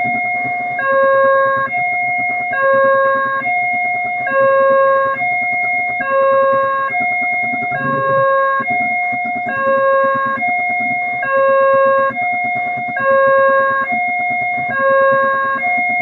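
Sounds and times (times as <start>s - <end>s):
low rumble of engines: 0.0s - 16.0s
two-tone level crossing alarm: 0.0s - 16.0s.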